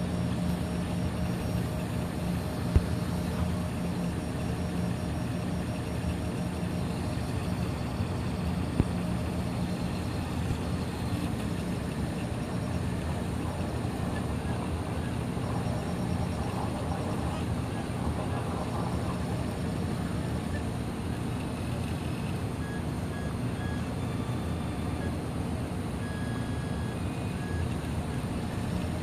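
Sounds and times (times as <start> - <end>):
cooling fan whirring: 0.0 - 29.0.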